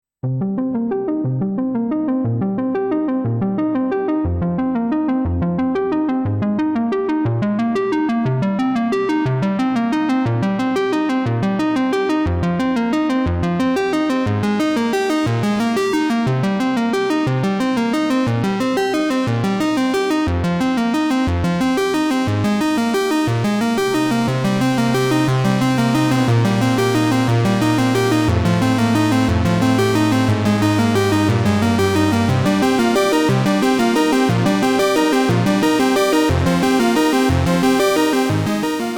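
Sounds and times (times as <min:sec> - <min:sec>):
synthesizer and electric piano music: 0:00.4 - 0:38.9.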